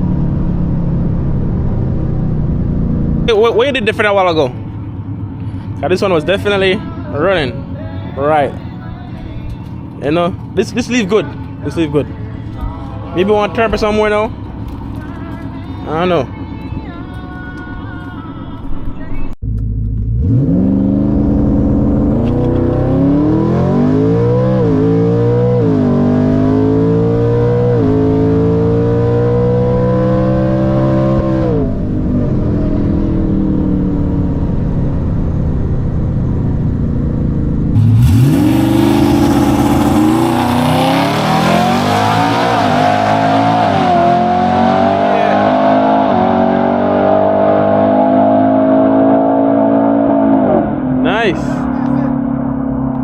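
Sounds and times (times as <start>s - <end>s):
truck engine at full throttle: 0.0s - 16.7s, 19.4s - 53.0s.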